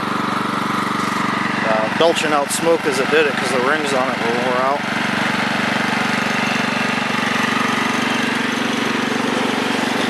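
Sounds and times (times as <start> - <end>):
riding mower engine running: 0.0 - 10.0.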